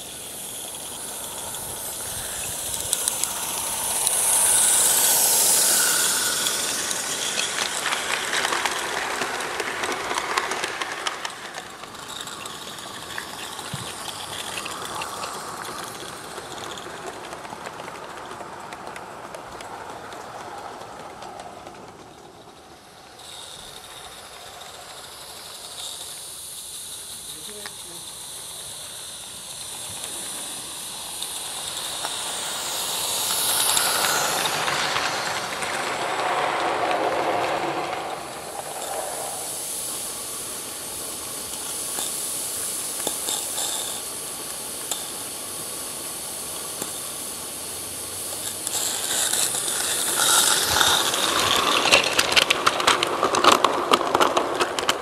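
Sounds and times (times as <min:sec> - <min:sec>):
steam locomotive hissing: 0:00.0 - 0:55.0
train wagons rolling on track: 0:00.0 - 0:55.0.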